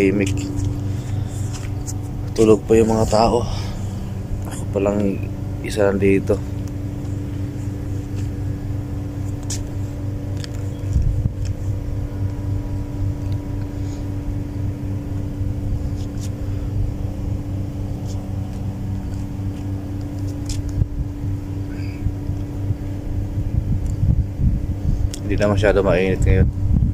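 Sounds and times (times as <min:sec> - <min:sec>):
low mechanical hum: 0:00.0 - 0:26.9.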